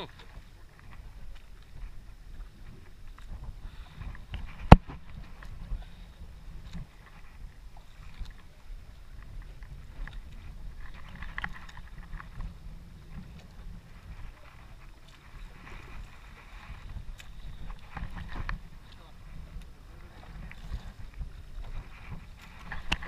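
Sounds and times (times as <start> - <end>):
wind and water rumble: 0.0 - 23.0.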